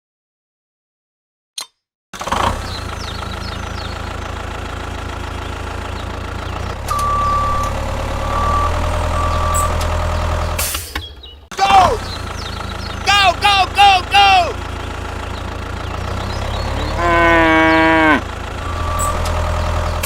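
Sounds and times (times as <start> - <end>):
vehicle engine running: 2.2 - 20.0.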